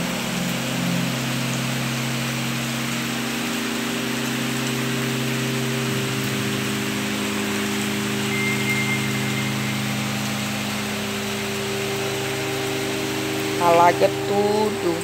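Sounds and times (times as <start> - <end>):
floodwater rushing: 0.0 - 15.0
heavy rain pouring: 0.0 - 15.0.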